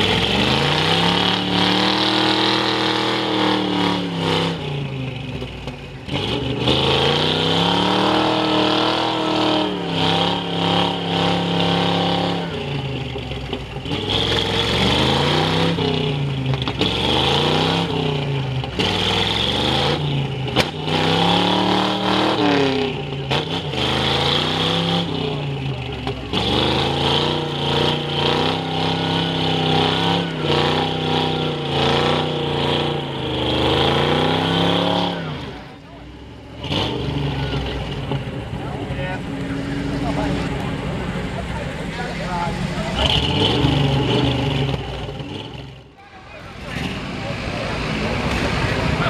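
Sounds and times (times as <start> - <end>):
truck engine revving hard: 0.0 - 49.0.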